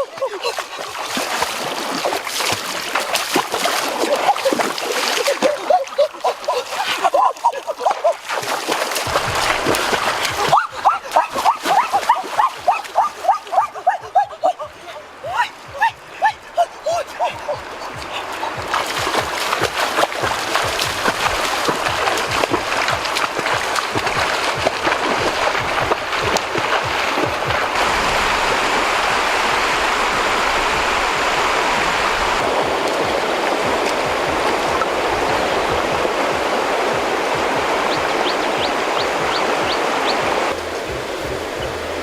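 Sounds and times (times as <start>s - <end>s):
running water rushing: 0.0s - 42.0s
water splashing and sloshing: 0.0s - 42.0s.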